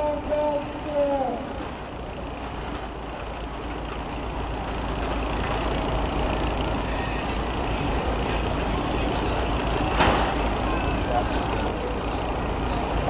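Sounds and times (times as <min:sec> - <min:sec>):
bus engines rumbling: 0:00.0 - 0:13.0.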